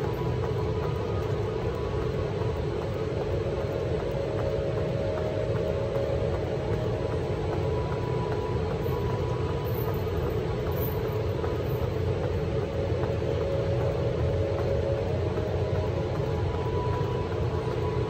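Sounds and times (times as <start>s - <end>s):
faint steady hum: 0.0s - 18.0s
low mechanical rumble: 0.0s - 18.0s.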